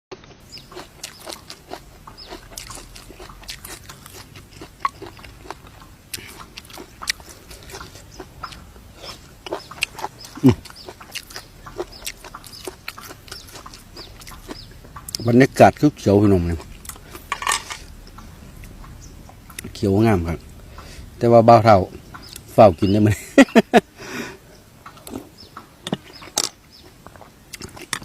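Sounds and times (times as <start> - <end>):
chickens clucking: 0.5 - 28.0.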